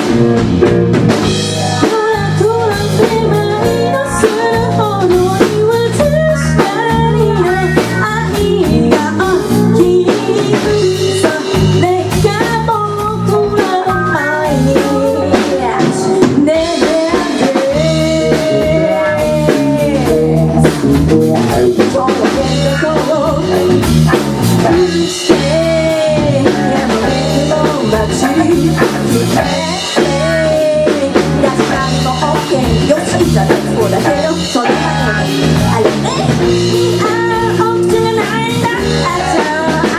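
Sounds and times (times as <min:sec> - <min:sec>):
live rock band playing: 0:00.0 - 0:39.9
person singing: 0:01.6 - 0:39.9.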